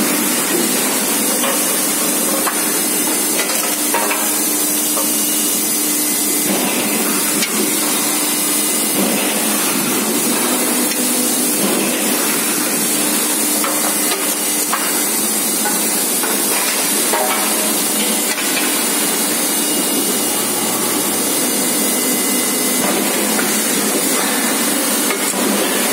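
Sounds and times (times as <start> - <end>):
forging press running: 0.0 - 25.9.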